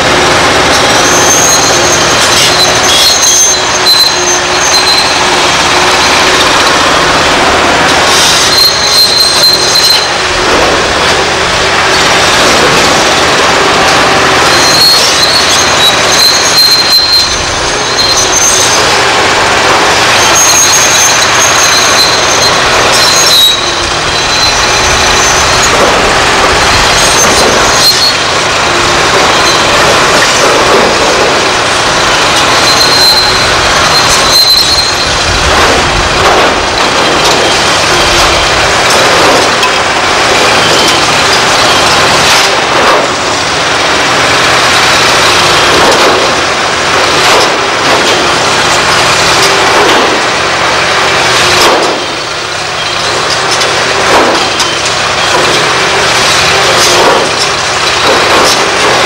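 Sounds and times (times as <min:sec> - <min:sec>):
concrete crunching: 0:00.0 - 0:59.0
excavator engine and hydraulics: 0:00.0 - 0:59.0
high-pitched squeals: 0:00.0 - 0:59.0.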